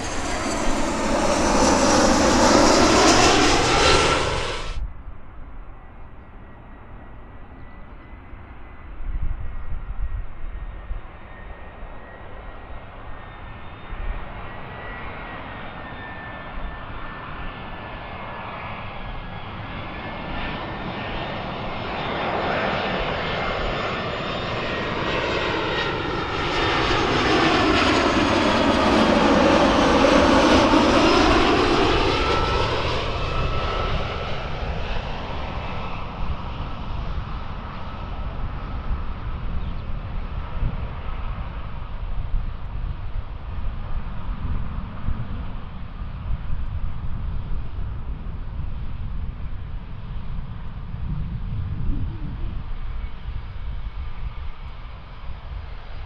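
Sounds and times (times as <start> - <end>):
jet engines on approach: 0.0 - 56.0.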